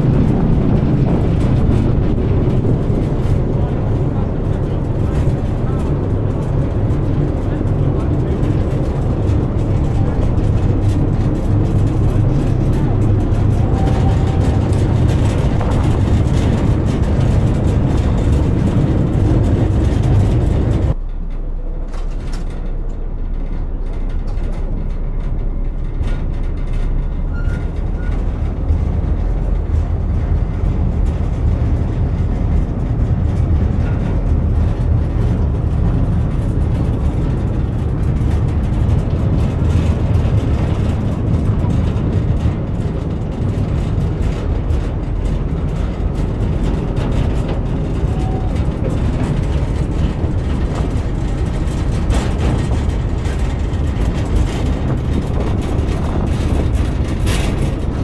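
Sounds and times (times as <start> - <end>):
train heavy low rumble: 0.0 - 58.0.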